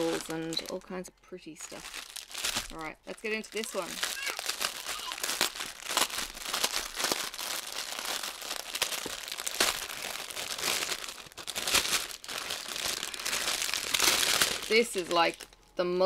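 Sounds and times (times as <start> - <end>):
plastic packaging crinkling: 0.0 - 1.0, 1.6 - 15.7.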